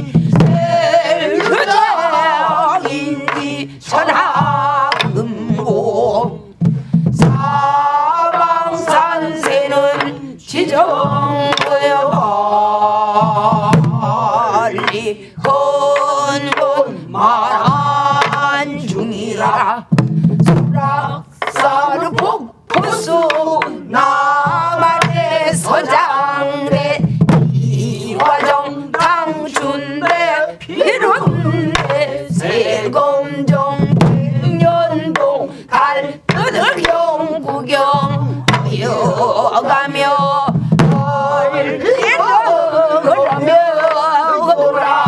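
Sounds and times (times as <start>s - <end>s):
barrel drum strokes: 0.0s - 45.0s
voices singing with vibrato: 0.0s - 45.0s.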